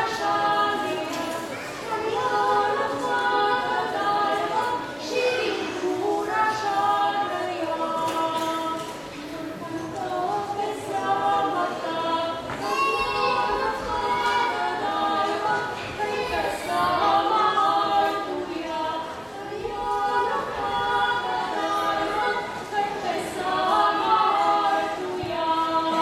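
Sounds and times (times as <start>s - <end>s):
women singing in harmony: 0.0s - 26.0s.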